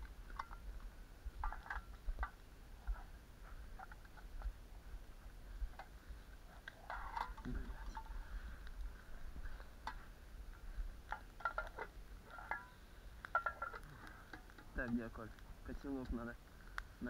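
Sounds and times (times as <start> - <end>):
sharp snaps of fire: 0.0 - 17.0
twig fire crackling: 0.0 - 17.0.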